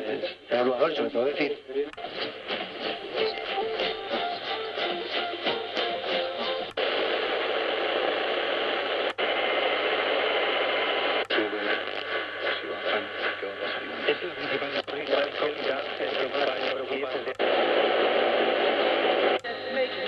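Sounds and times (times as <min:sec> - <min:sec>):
am radio station audio: 0:00.0 - 0:20.0
radio static hiss: 0:00.0 - 0:20.0.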